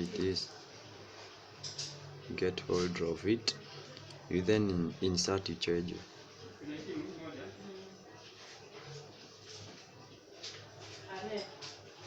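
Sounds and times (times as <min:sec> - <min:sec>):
faint background voices: 0:00.0 - 0:12.0
low room noise: 0:00.0 - 0:12.0.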